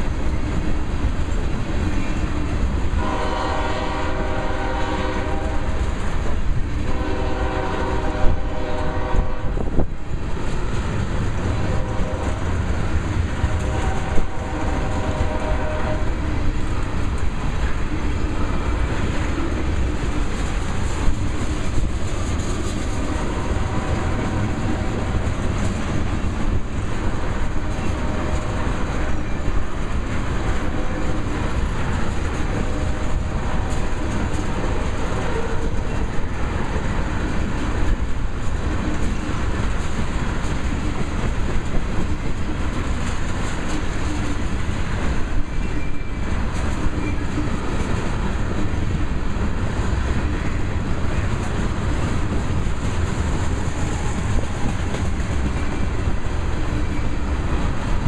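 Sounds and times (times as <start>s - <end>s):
freight train wheels rumbling on rails: 0.0s - 58.0s
rail clicking and clacking: 0.0s - 58.0s.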